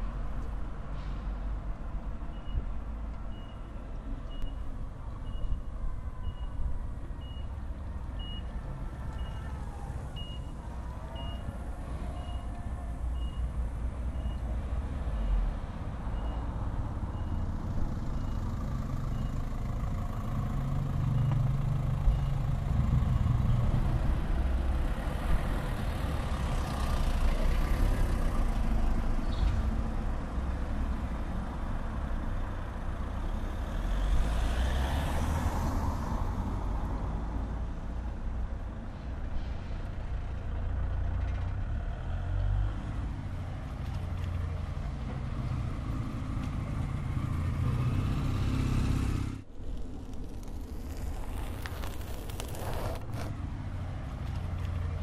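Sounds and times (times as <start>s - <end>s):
street traffic rumble: 0.0s - 55.0s
vehicles passing: 0.0s - 55.0s.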